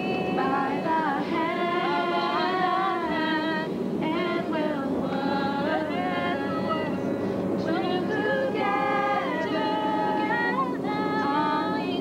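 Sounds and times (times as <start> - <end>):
young women singing unaccompanied: 0.0 - 12.0.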